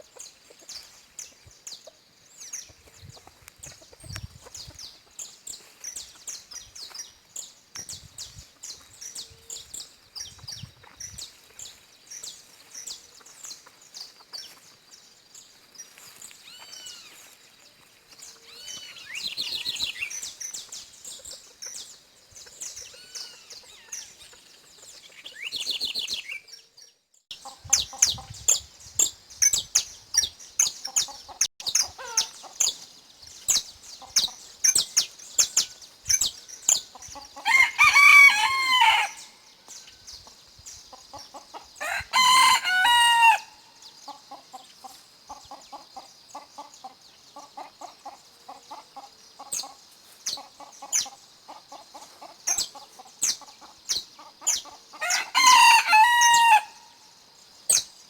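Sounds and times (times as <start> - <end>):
finches chirping and singing: 0.1 - 15.0, 18.1 - 37.8, 45.4 - 55.3, 55.9 - 58.0.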